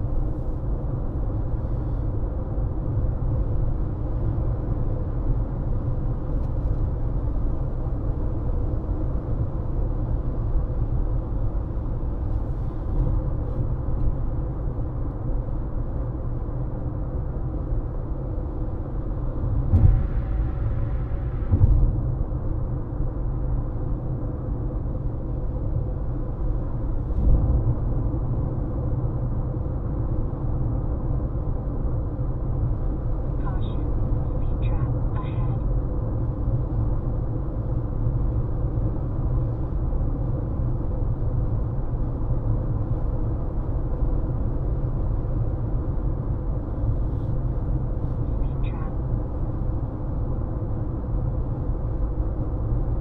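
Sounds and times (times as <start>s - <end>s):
car road noise: 0.0s - 53.0s.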